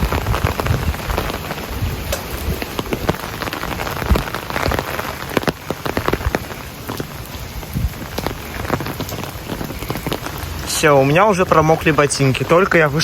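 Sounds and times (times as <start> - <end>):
heavy rain: 0.0 - 13.0
raindrops splatting nearby: 0.0 - 13.0.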